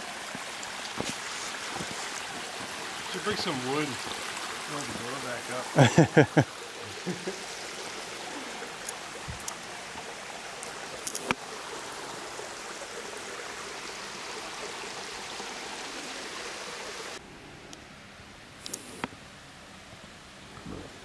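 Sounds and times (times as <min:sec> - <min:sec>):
creek water spilling over dam: 0:00.0 - 0:17.2.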